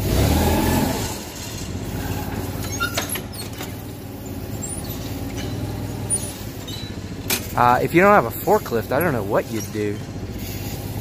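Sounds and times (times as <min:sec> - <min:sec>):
forklift engine idling: 0:00.0 - 0:11.0.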